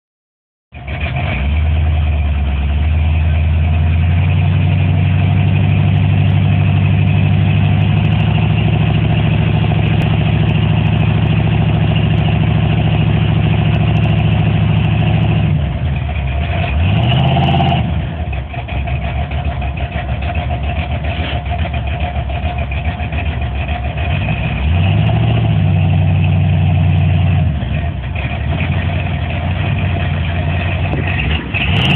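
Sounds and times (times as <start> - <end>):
car engine running: 0.8 - 31.9
engine revving: 0.8 - 31.9.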